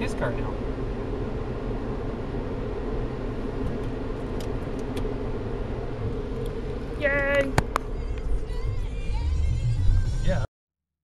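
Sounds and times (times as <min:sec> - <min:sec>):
car engine running: 0:00.0 - 0:10.4.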